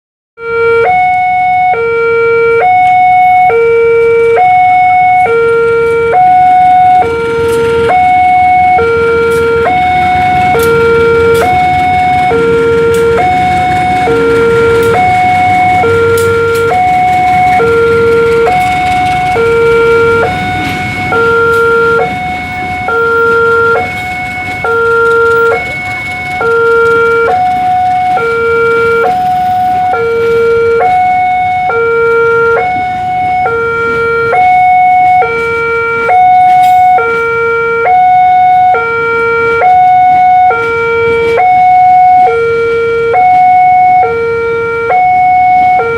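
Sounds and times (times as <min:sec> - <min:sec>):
two-tone warning siren: 0:00.4 - 0:45.9.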